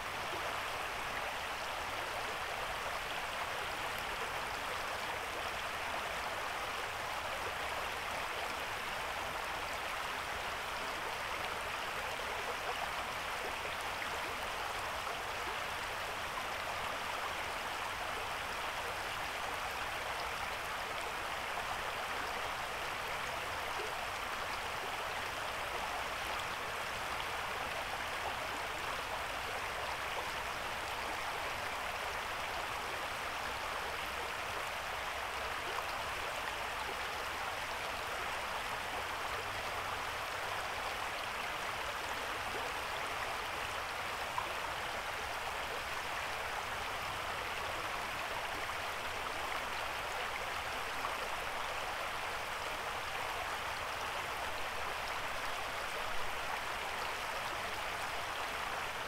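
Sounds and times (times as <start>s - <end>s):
creek water over rocks: 0.0s - 59.0s.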